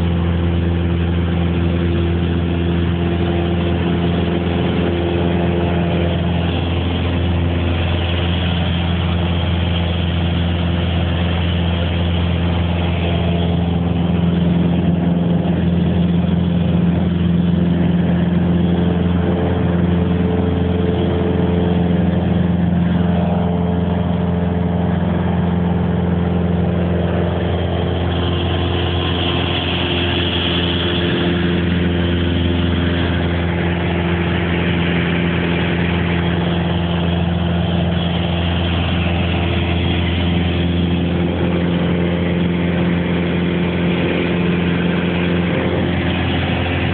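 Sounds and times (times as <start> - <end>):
small plane engine droning: 0.0 - 46.9.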